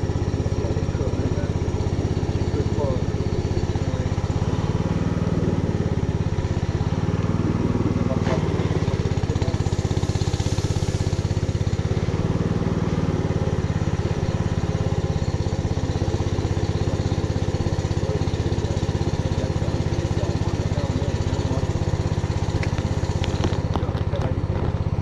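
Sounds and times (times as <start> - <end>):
small boat engine running: 0.0 - 25.0.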